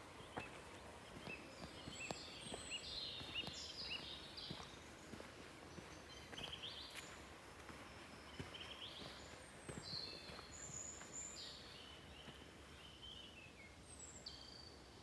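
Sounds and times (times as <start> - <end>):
footsteps on dirt path: 0.0 - 12.9
birds singing: 0.0 - 15.0.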